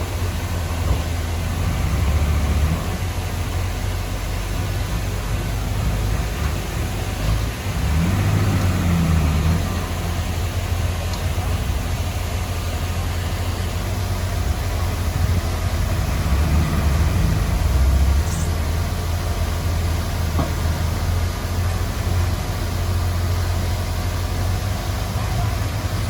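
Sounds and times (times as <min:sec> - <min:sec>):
heavy diesel machinery rumbling: 0:00.0 - 0:26.0.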